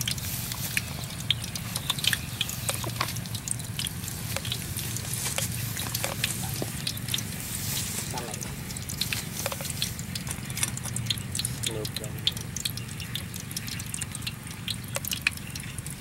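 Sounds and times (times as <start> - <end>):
low steady hum: 0.0 - 16.0
oil pops and crackles: 0.0 - 16.0
oil sizzling: 0.0 - 16.0.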